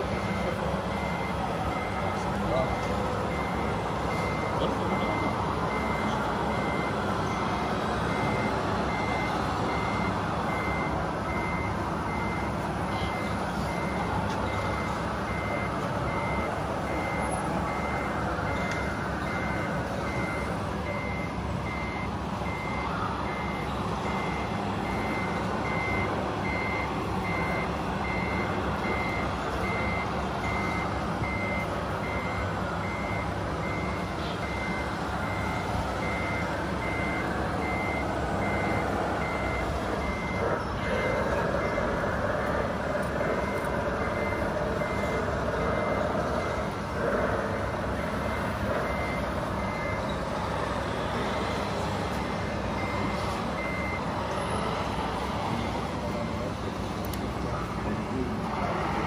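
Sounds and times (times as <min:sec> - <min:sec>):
reversing beeper: 0:00.0 - 0:56.6
simulated diesel engine rumble: 0:00.0 - 0:59.0.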